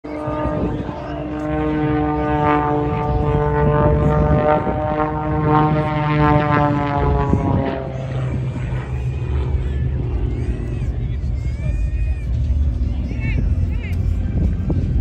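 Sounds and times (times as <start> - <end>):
biplane engine and propeller droning: 0.0 - 15.0.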